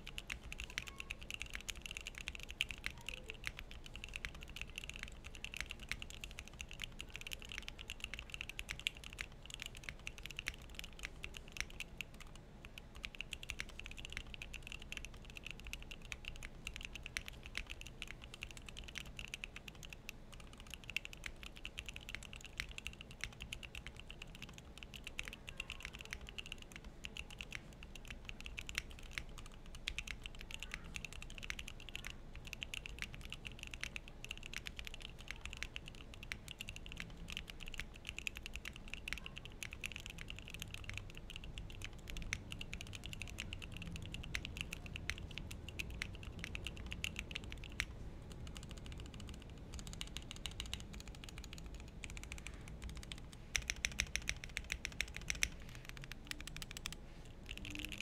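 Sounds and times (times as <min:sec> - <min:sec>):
typing on mechanical keyboard: 0:00.0 - 0:58.0.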